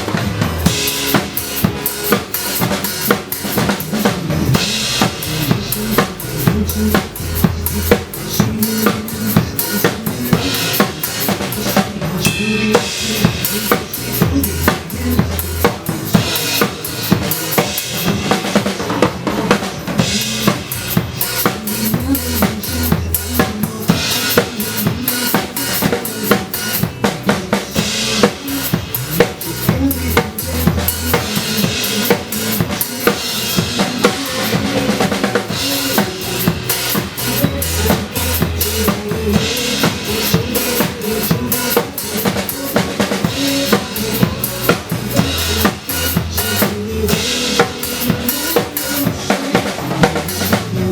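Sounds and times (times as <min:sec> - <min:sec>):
drum kit groove: 0:00.0 - 0:50.9
pop song backing track: 0:00.0 - 0:50.9.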